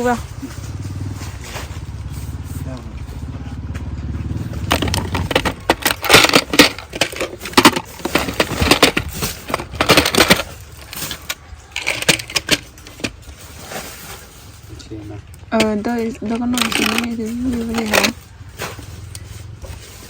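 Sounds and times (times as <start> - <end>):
objects clattering and rustling: 0.0 - 20.0.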